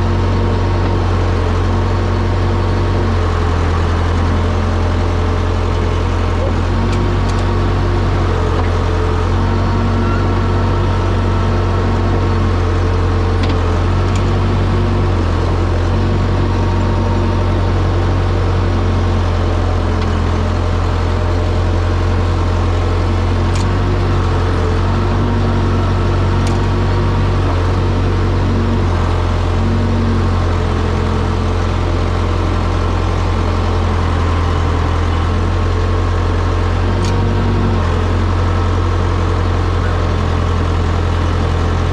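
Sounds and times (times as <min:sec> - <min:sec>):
engine droning steadily: 0:00.0 - 0:41.9.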